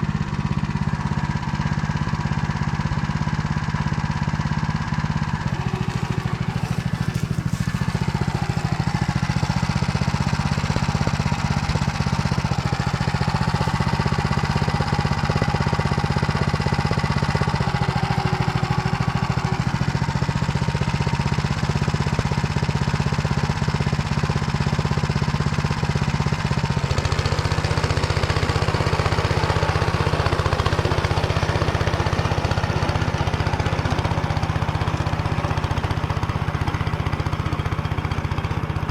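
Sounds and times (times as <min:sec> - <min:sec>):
engine running under load: 0:00.0 - 0:38.9
rotary tiller through stubble: 0:00.0 - 0:38.9.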